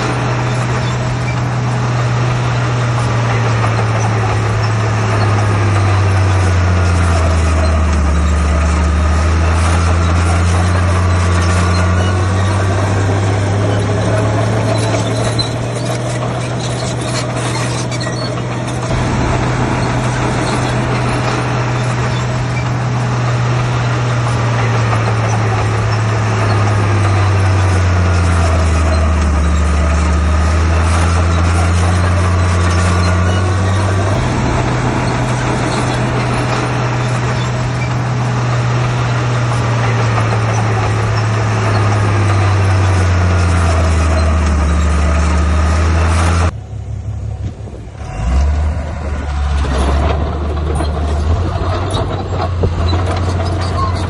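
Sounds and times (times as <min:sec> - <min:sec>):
high gliding whines: 0:00.0 - 0:46.6
heavy diesel engine under load: 0:00.0 - 0:54.0.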